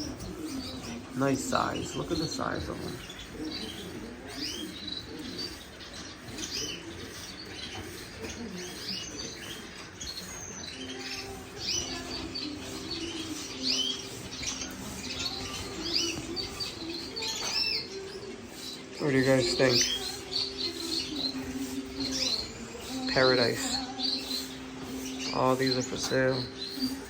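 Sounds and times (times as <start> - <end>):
canaries and finches chirping: 0.0 - 27.0.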